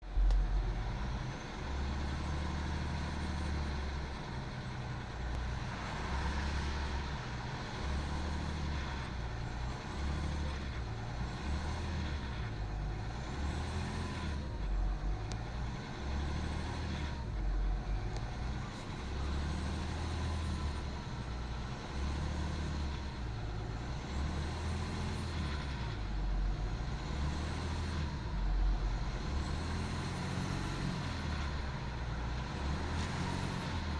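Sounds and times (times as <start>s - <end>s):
diesel engine revving: 0.0s - 33.9s
engine rattle: 0.0s - 33.9s.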